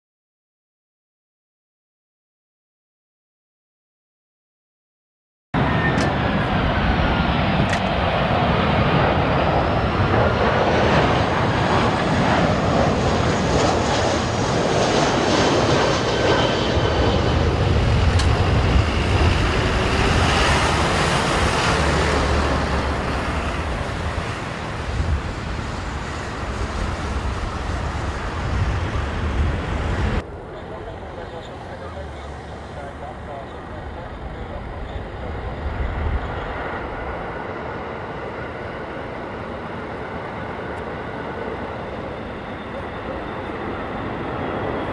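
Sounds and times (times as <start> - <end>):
jet engine whine: 5.6 - 44.9
jet engines roaring: 5.6 - 44.9.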